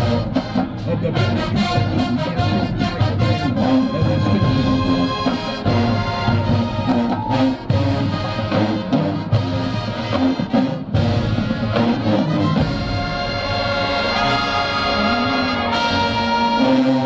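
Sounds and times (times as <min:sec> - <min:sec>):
marching band brass playing: 0:00.0 - 0:17.0.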